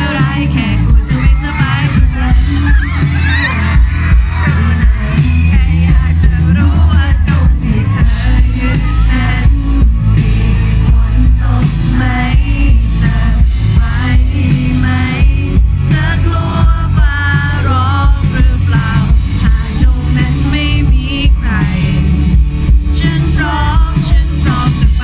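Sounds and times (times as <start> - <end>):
bass guitar: 0.0 - 25.0
person singing lead vocal: 0.0 - 25.0.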